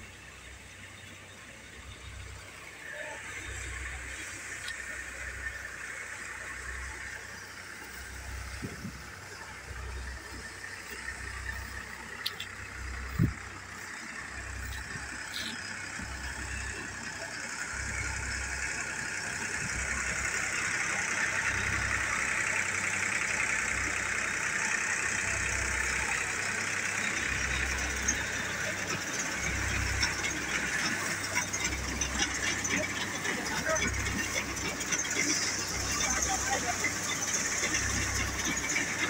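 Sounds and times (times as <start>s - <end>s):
tractor engine humming: 0.0s - 39.0s
thresher drum whirring hiss: 2.3s - 39.0s.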